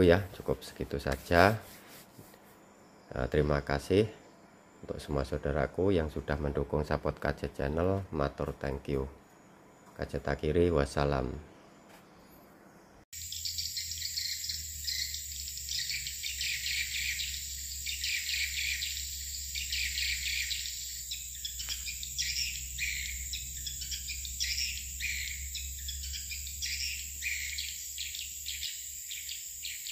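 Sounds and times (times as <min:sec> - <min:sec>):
birds twittering: 0:02.6 - 0:29.9.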